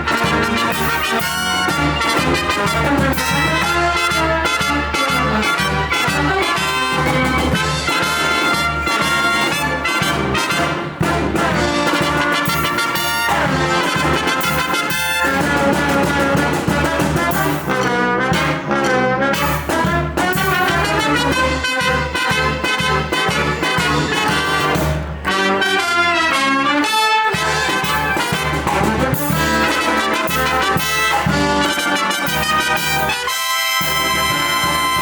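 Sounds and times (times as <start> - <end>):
brass band playing swing jazz: 0.0 - 35.0.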